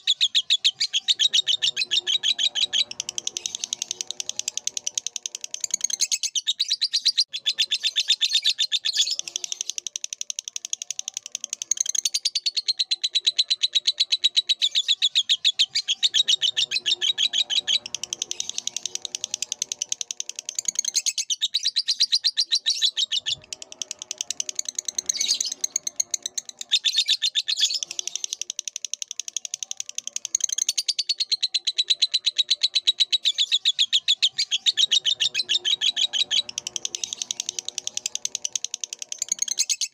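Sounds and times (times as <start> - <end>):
lovebird chattering chirps: 0.0 - 39.9.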